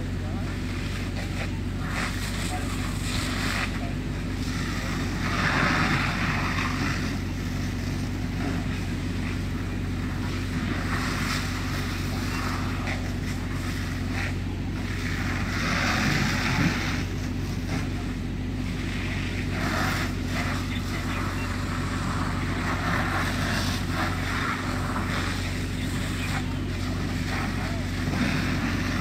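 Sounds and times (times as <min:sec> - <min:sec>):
low engine hum: 0:00.0 - 0:29.0
hose water stream hissing: 0:00.4 - 0:29.0.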